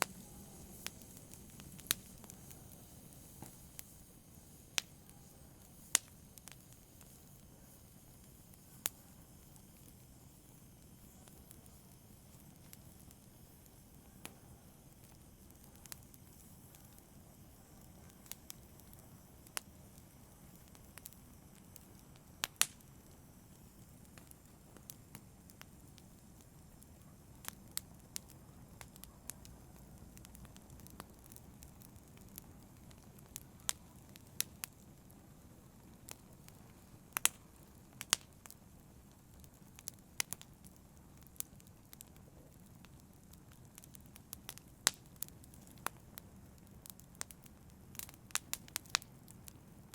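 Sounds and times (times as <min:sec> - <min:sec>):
burning wood crackling and popping: 0:00.0 - 0:49.9
low rumble of flames: 0:00.0 - 0:49.9.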